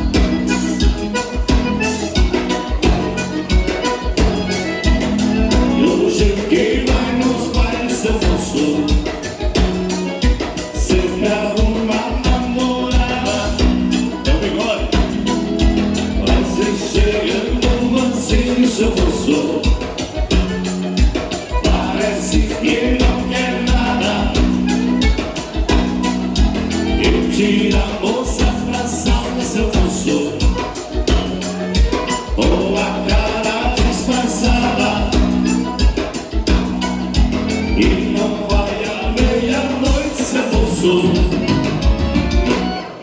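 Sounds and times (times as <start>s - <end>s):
dance band playing: 0.0s - 43.0s.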